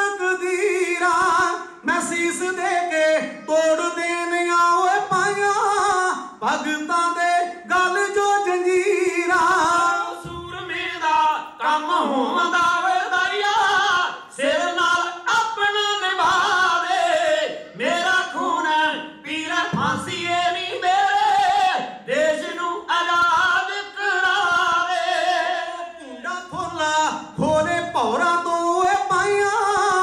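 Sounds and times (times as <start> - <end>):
men singing into microphones: 0.0 - 30.0.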